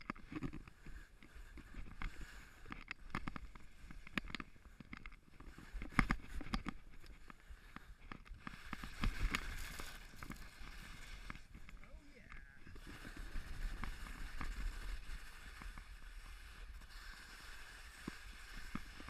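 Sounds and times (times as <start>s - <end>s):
sharp ski scrapes and knocks: 0.0s - 19.0s
skis swishing through snow: 0.3s - 19.0s.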